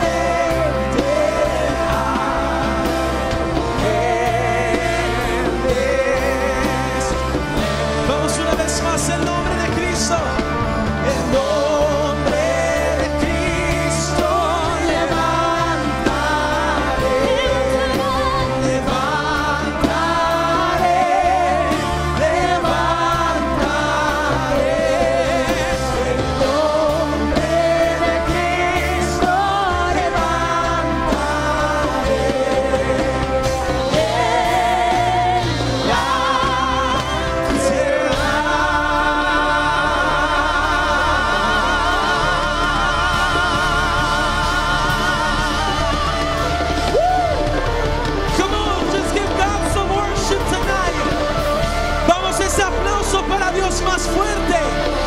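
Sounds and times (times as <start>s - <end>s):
singers singing: 0.0s - 55.0s
worship band playing: 0.0s - 55.0s.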